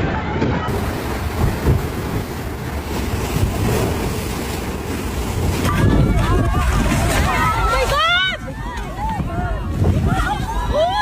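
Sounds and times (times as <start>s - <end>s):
boat engine rumble: 0.0s - 11.0s
rushing sea water: 0.0s - 11.0s
wind buffeting microphone: 0.0s - 11.0s.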